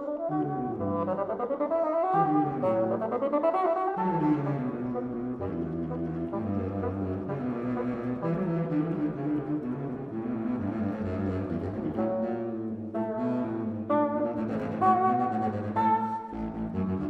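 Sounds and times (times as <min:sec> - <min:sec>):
bassoon and contrabassoon duet: 0:00.0 - 0:17.0.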